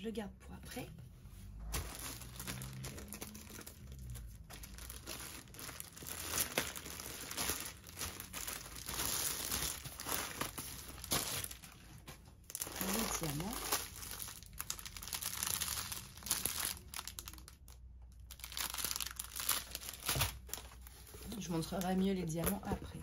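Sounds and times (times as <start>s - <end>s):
plastic and paper crinkling: 1.5s - 22.9s.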